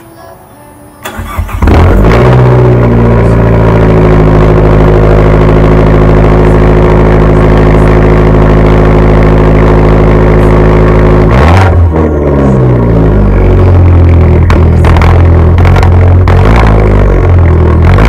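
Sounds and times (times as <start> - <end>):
car engine cold start: 1.0 - 18.0
car engine idling: 1.0 - 18.0.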